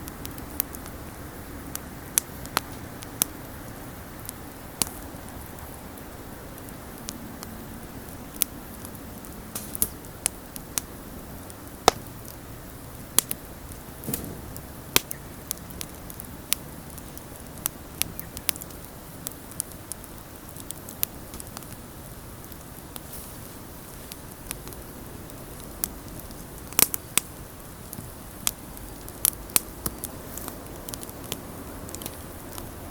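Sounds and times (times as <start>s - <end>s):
bonfire crackling and popping: 0.0s - 32.9s
low rush of flame: 0.0s - 32.9s.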